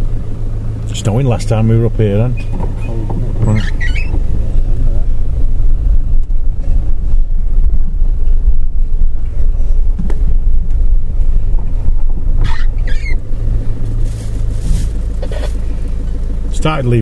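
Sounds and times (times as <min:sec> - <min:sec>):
vehicle engine running: 0:00.0 - 0:17.0
wind buffeting microphone: 0:01.4 - 0:15.6.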